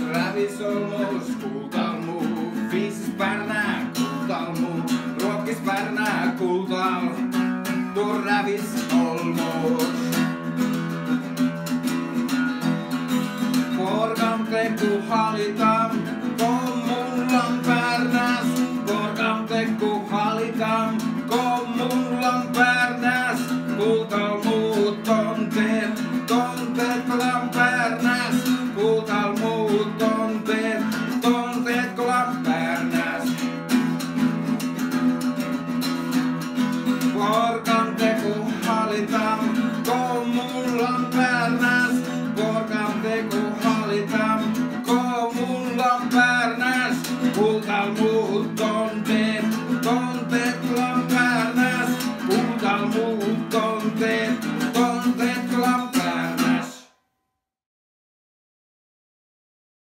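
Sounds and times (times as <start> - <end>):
man singing: 0.0 - 11.3, 12.2 - 56.9
acoustic guitar strumming: 0.0 - 57.0.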